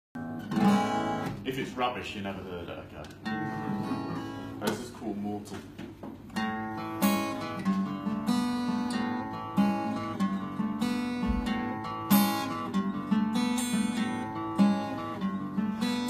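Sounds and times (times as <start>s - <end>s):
acoustic guitar strumming: 0.2s - 2.0s, 3.1s - 16.0s.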